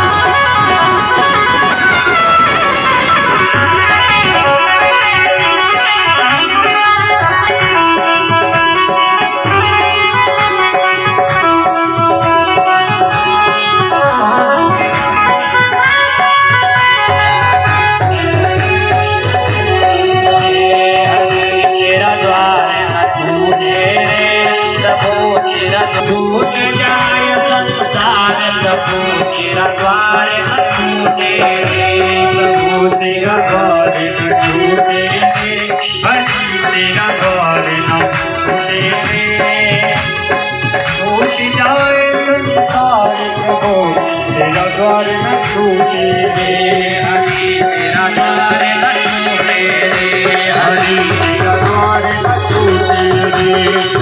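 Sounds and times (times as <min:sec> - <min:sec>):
hand drum rhythm: 0:00.0 - 0:54.0
harmonium melody: 0:00.0 - 0:54.0
man singing: 0:00.0 - 0:54.0.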